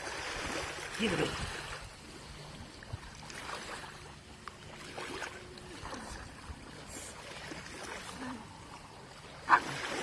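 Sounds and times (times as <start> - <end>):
shallow water sloshing: 0.0 - 10.0.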